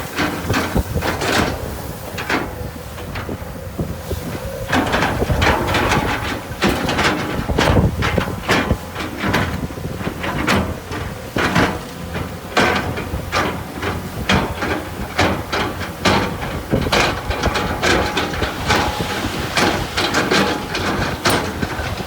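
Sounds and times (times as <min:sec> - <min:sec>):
heavy machinery engine drone: 0:00.0 - 0:22.0
metallic clanks and scrapes: 0:04.2 - 0:22.0.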